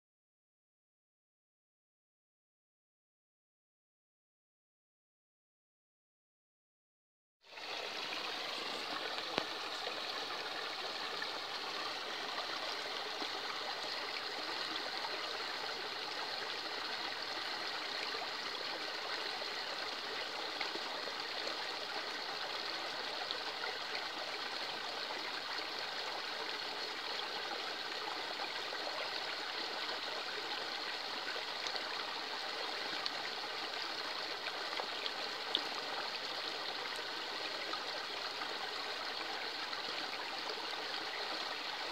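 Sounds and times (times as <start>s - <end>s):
stream babbling over stones: 7.5s - 41.9s.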